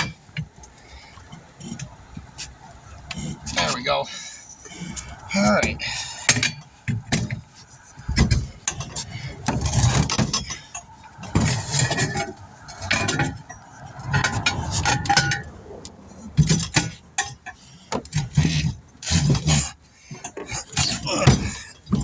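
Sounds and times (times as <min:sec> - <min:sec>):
metal clanks from tire changer: 0:00.0 - 0:22.0.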